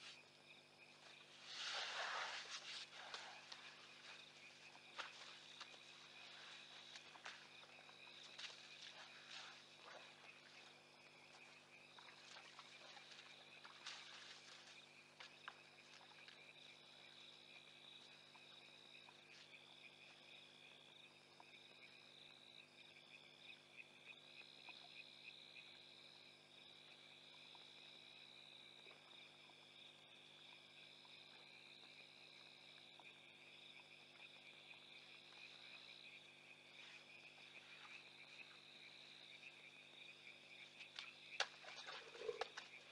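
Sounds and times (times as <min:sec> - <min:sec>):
insect trill: 0:00.0 - 0:42.9
pulsing insect chirp: 0:00.0 - 0:42.9.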